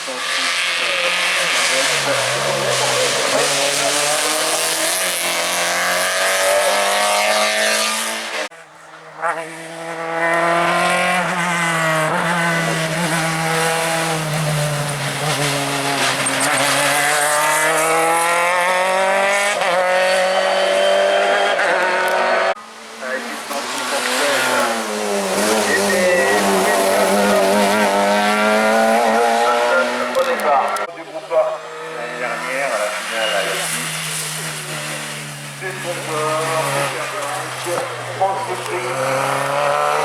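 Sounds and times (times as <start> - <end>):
car engine at high revs: 0.0 - 40.0
race car engines revving: 0.0 - 40.0.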